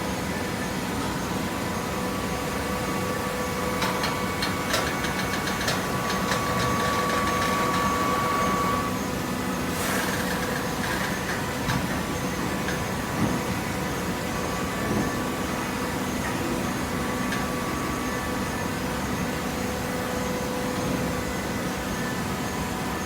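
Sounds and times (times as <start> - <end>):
baler motor and pump hum: 0.0 - 23.0.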